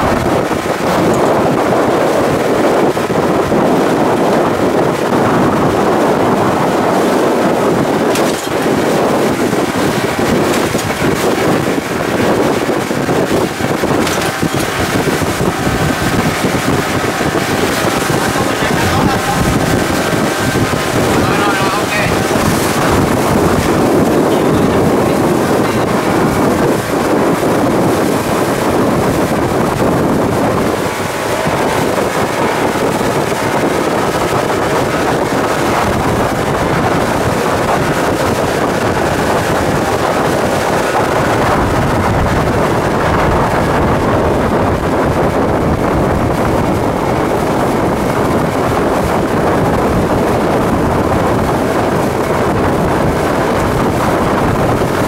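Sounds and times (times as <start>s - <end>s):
outboard motor running: 0.0s - 55.0s
water rushing and spray: 0.0s - 55.0s
wind buffeting microphone: 0.0s - 55.0s.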